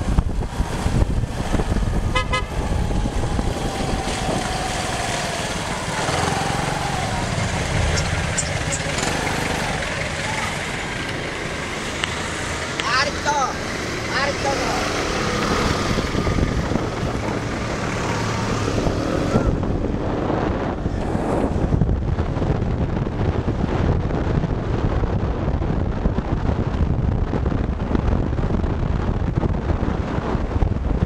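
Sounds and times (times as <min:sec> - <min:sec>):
motorcycle engine and road rumble: 0:00.0 - 0:31.0
wind buffeting microphone: 0:00.0 - 0:31.0.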